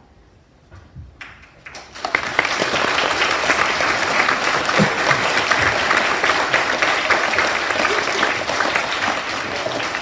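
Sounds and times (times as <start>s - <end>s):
children applauding: 1.6s - 10.0s.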